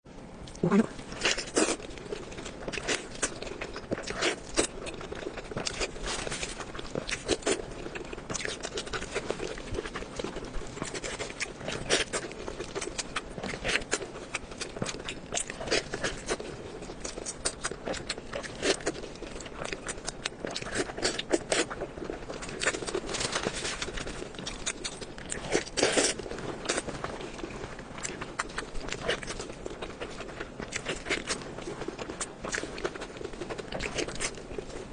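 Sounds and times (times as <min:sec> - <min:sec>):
crunching and chewing: 0:00.4 - 0:34.9.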